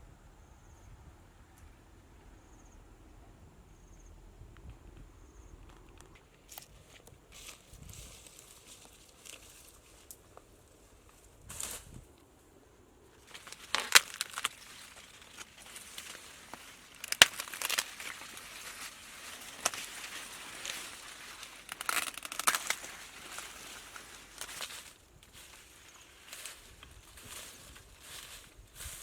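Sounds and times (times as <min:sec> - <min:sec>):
crunching and crackling with snaps: 0:04.5 - 0:12.3, 0:13.1 - 0:29.0.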